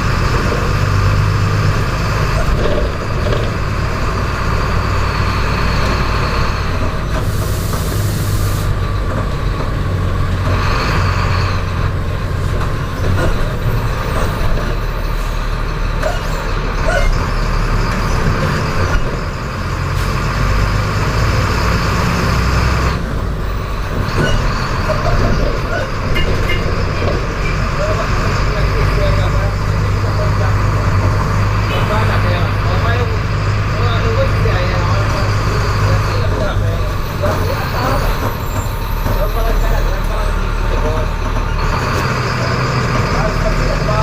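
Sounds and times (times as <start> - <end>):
diesel bus engine running: 0.0 - 44.0.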